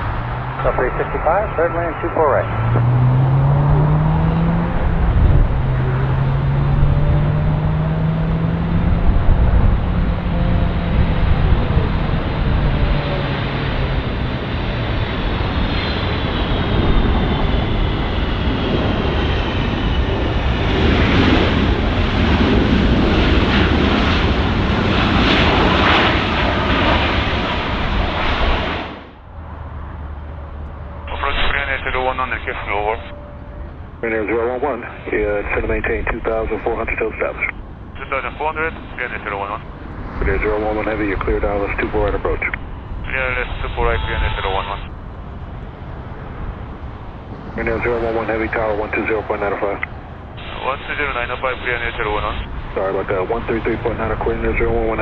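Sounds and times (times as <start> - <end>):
jet engines passing by: 0.0 - 55.0.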